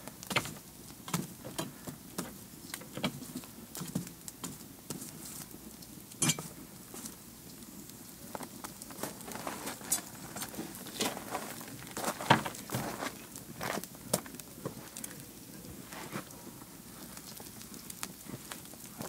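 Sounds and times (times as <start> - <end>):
burning logs popping: 0.0 - 19.0
wood fire crackling: 0.0 - 19.0.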